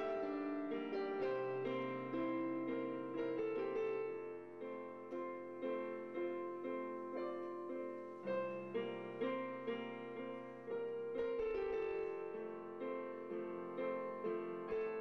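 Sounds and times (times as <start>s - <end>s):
slow piano piece: 0.0s - 15.0s.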